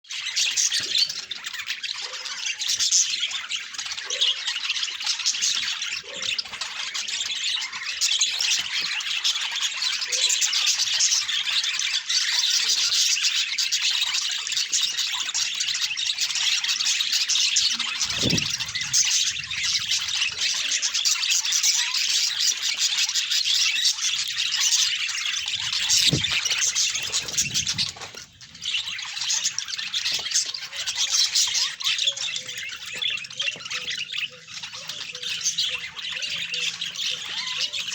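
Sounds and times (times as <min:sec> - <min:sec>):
budgerigars chattering: 0:00.2 - 0:37.9.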